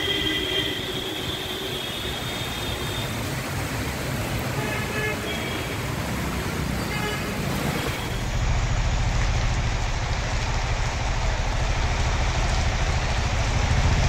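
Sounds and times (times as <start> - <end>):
heavy rain hissing: 0.0 - 14.0
traffic on wet road: 0.0 - 14.0.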